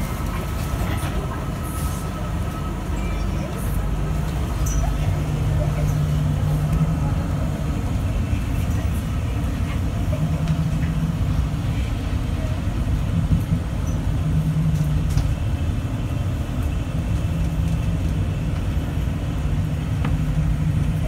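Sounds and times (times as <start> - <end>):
tyres rumbling on concrete track: 0.0 - 21.0.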